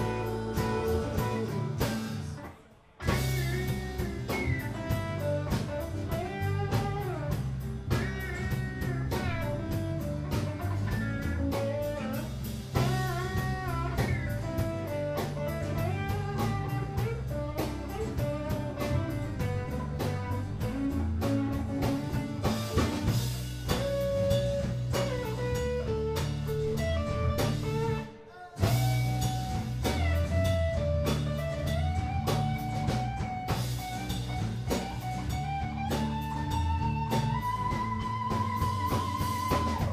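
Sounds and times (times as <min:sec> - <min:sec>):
bass guitar: 0:00.0 - 0:39.9
electric and acoustic guitars: 0:00.0 - 0:39.9
steady drum beat: 0:00.0 - 0:39.9.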